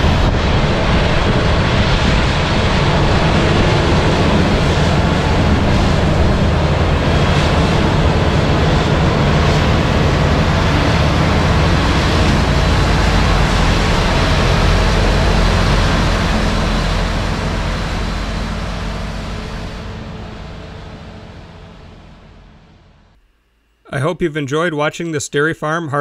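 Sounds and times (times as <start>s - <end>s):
broad rushing noise: 0.0s - 23.1s
harvester engine drone: 0.0s - 23.2s.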